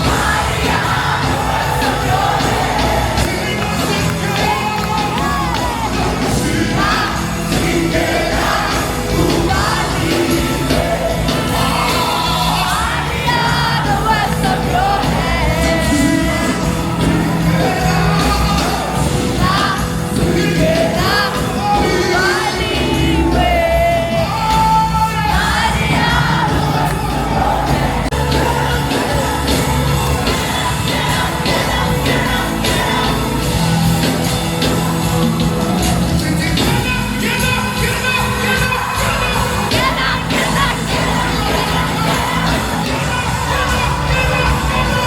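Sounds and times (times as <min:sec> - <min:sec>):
band with bass line: 0:00.0 - 0:45.0
crowd noise: 0:00.0 - 0:45.0
voices singing: 0:00.0 - 0:45.0.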